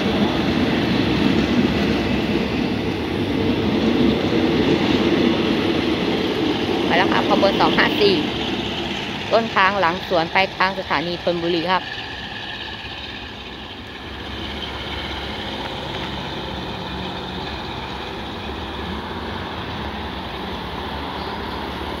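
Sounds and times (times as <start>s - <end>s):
diesel train pulling away: 0.0s - 22.0s.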